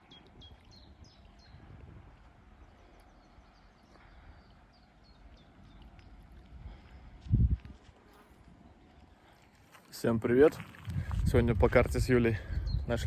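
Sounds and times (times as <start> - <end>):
low wind rumble: 0.0 - 9.3, 10.2 - 13.0
small birds chirping: 0.0 - 11.3, 12.1 - 13.0.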